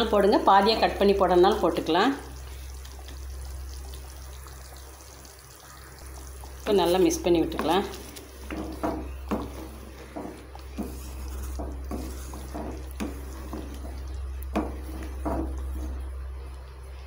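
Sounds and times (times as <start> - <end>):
sauce sloshing: 2.1 - 17.0.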